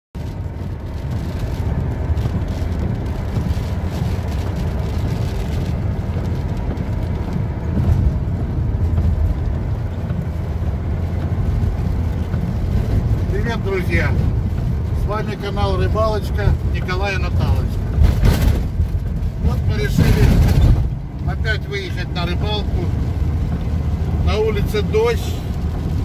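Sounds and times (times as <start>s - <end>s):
vehicle engine and road noise: 0.1s - 26.0s.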